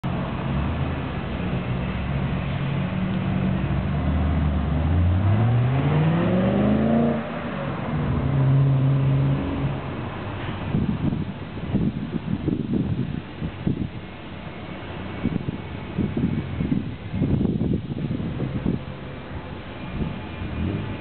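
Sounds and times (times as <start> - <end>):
car engine running and revving: 0.0 - 13.1, 15.2 - 21.0.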